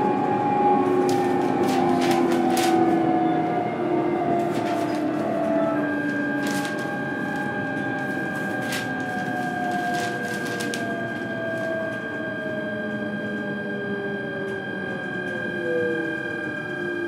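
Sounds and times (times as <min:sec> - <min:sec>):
electric train motor whine: 0:00.0 - 0:17.0.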